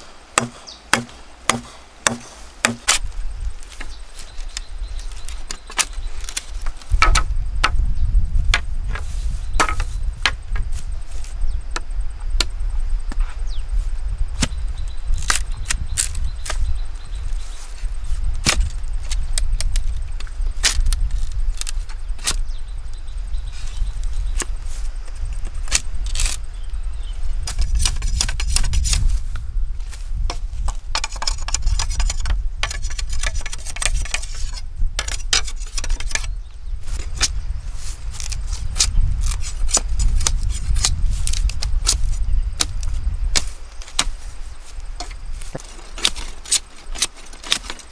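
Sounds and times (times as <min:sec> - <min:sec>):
bamboo clicking on bamboo: 0:00.0 - 0:07.8, 0:09.6 - 0:13.2, 0:14.4 - 0:16.7, 0:17.8 - 0:23.0, 0:24.1 - 0:26.4, 0:27.4 - 0:29.1, 0:30.3 - 0:37.4, 0:38.1 - 0:47.9.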